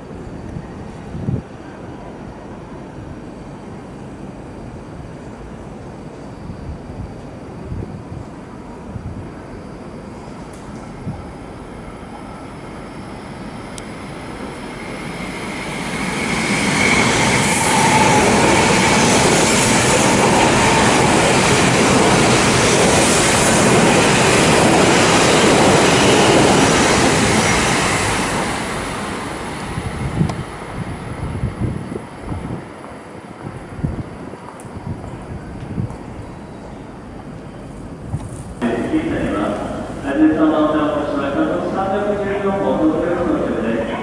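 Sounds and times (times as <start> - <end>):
train rushing past on rails: 0.0 - 44.0.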